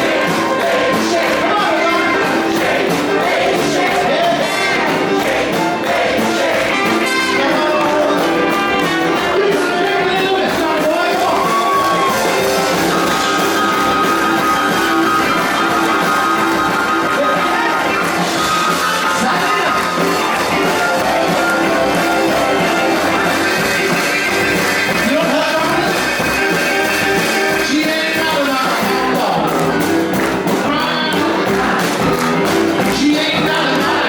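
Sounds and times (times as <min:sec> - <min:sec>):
live rock and roll band: 0:00.0 - 0:34.0
person singing: 0:00.0 - 0:34.0.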